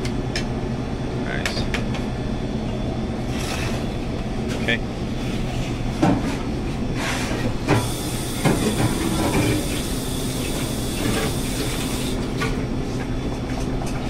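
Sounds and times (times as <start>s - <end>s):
ventilation fan humming: 0.0s - 14.0s.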